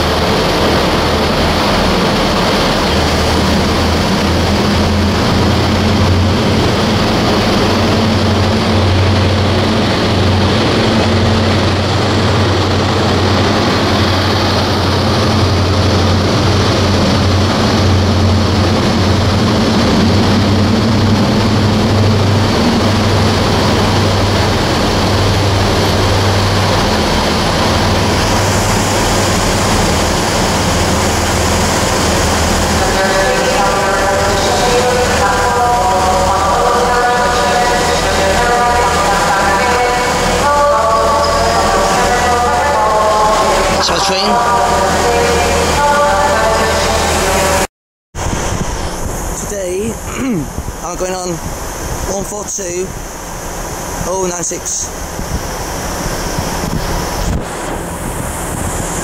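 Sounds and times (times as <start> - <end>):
diesel train pulling away: 0.0 - 59.0.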